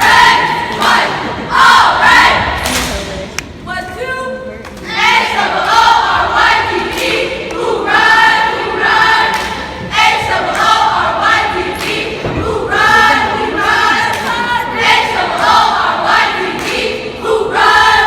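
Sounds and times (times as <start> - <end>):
voices chanting in unison: 0.0 - 2.7, 4.8 - 18.0.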